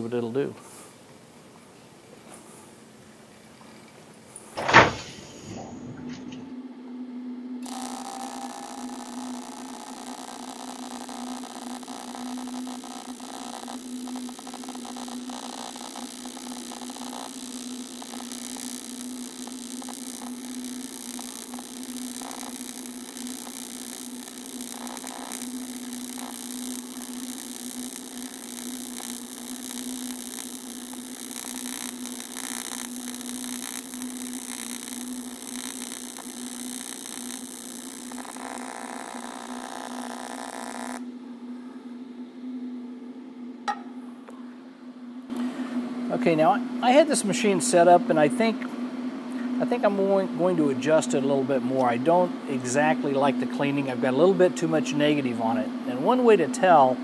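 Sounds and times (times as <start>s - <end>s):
welding arc buzzing hum: 0.0s - 57.0s.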